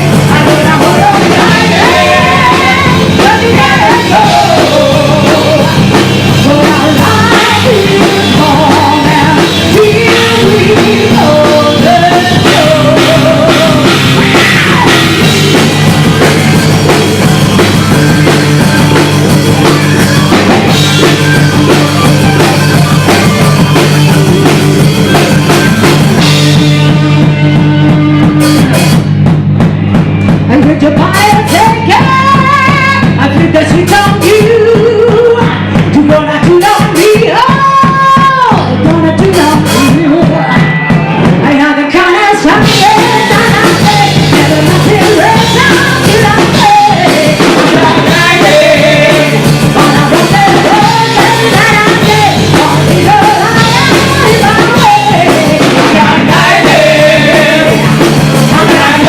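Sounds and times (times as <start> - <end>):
drum kit: 0.0 - 59.0
live rock band: 0.0 - 59.0.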